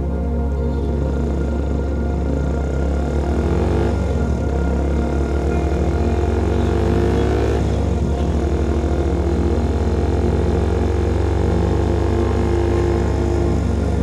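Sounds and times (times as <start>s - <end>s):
motorcycle engine droning: 0.0s - 14.0s.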